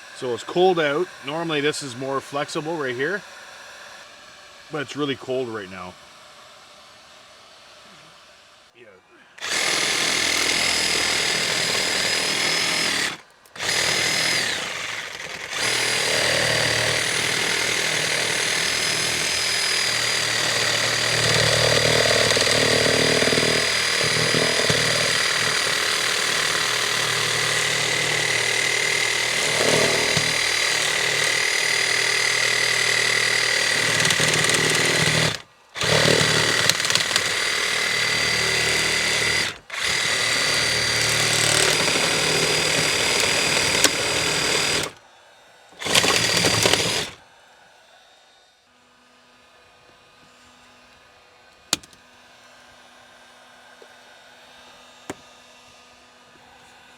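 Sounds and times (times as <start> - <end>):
power saw cutting plastic pipe: 0.0 - 8.8, 9.4 - 45.1, 45.7 - 47.2, 51.6 - 52.0.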